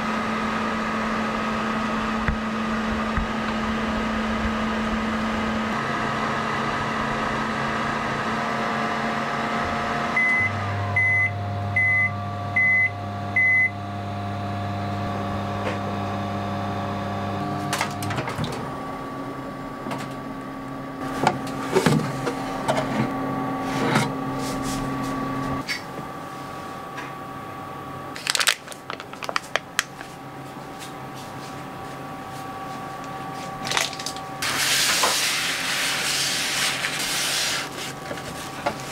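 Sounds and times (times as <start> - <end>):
microwave fan hum: 0.0 - 38.9.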